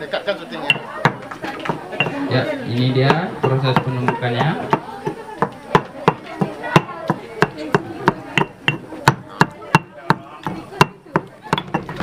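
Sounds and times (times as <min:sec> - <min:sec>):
stone pestle pounding in mortar: 0:00.7 - 0:02.3, 0:03.0 - 0:12.0.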